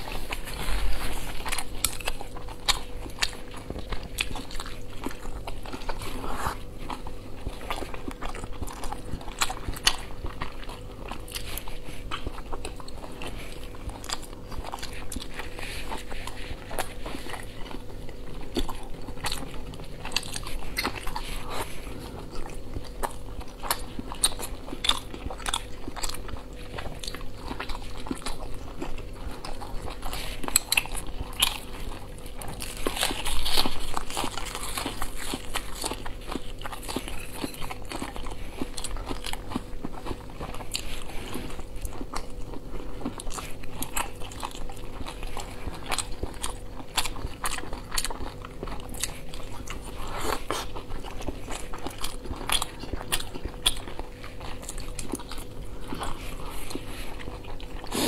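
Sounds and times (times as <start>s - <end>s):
wet chewing: 0.0s - 58.0s.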